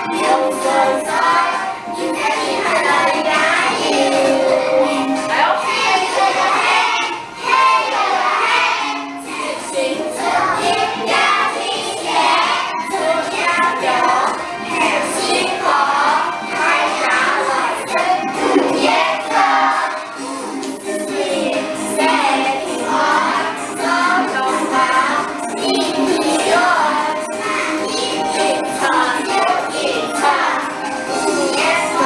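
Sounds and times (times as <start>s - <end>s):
children singing: 0.0s - 32.0s
recorded backing music: 0.0s - 32.0s.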